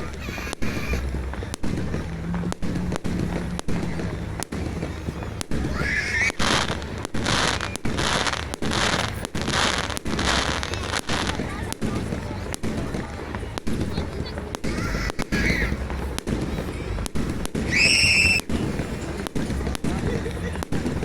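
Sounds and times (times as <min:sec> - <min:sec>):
crackling hiss bursts: 0:00.0 - 0:21.0
fireworks bangs: 0:00.0 - 0:21.0.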